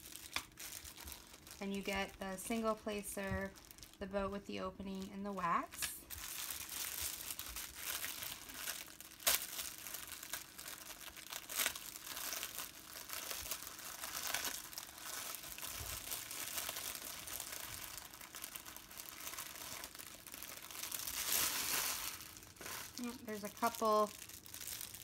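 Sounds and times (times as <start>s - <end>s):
plastic wrapping crinkling: 0.0s - 25.0s.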